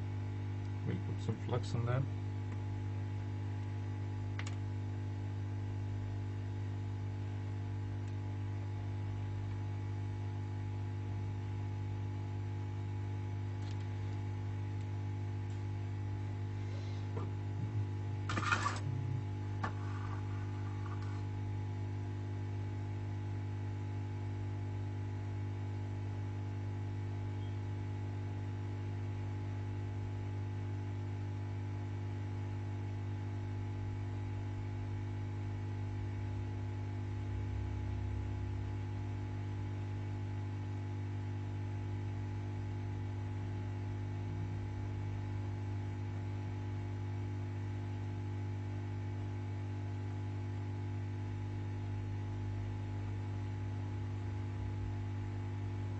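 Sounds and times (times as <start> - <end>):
electrical mains hum: 0.0 - 55.9.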